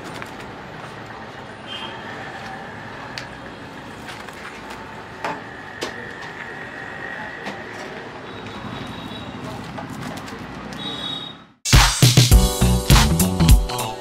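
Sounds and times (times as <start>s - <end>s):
street traffic hum: 0.0s - 11.7s.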